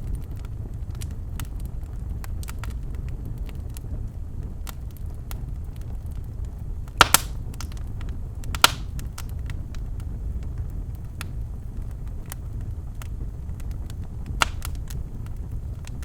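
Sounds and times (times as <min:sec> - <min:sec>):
fire crackling: 0:00.0 - 0:16.0
low rumble of flame: 0:00.0 - 0:16.0
burning logs popping: 0:00.1 - 0:16.0.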